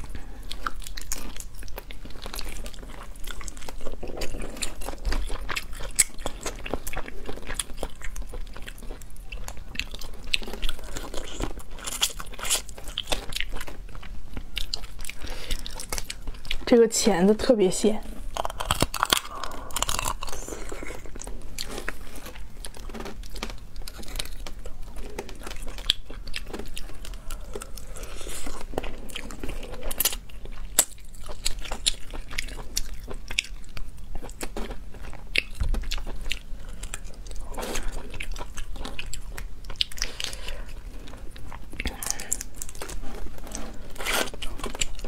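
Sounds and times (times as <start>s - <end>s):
chewing and crunching: 0.0s - 17.5s, 18.1s - 45.0s.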